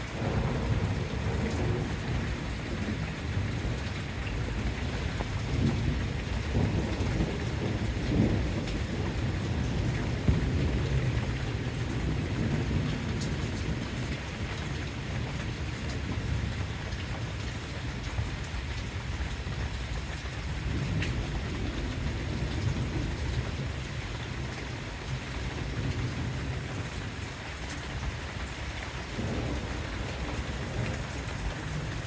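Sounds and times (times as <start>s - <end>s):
low rolling thunder: 0.0s - 17.1s, 20.4s - 32.0s
heavy rain falling: 0.0s - 32.0s.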